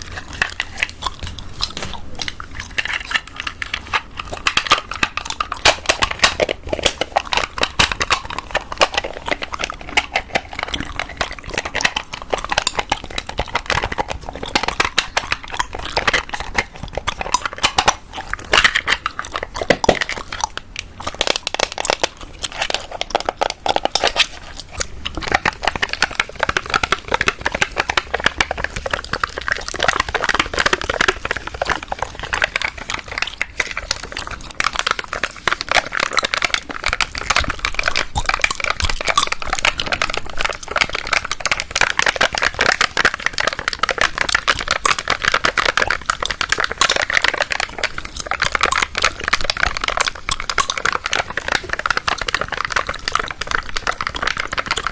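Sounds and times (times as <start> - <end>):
gum chewing: 0.0 - 54.9.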